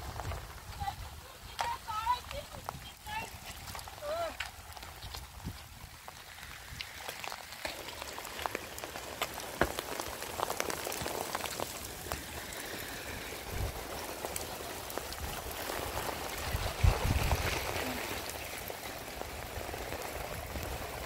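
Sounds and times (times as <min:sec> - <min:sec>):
rain pattering on a surface: 0:00.0 - 0:21.0.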